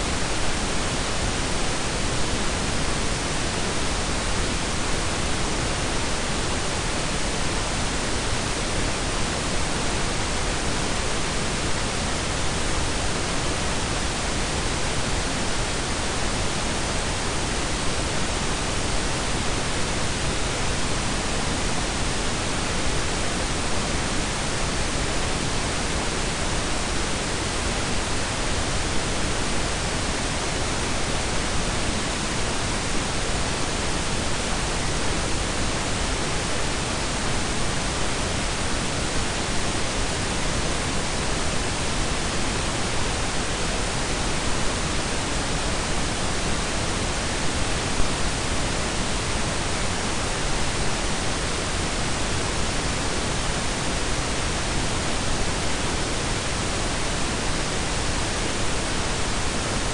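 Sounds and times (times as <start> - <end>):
pink and brown noise: 0.0 - 59.9.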